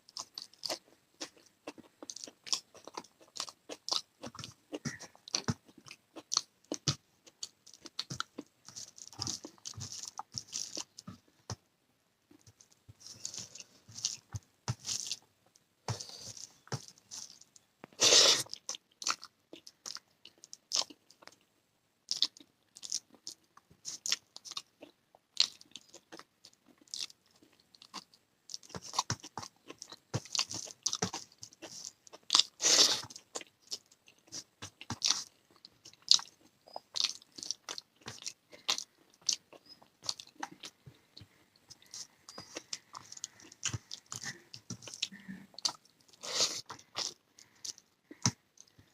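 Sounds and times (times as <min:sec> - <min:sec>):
wet chewing: 0:00.0 - 0:11.3, 0:12.3 - 0:15.3, 0:15.9 - 0:21.4, 0:22.1 - 0:48.9.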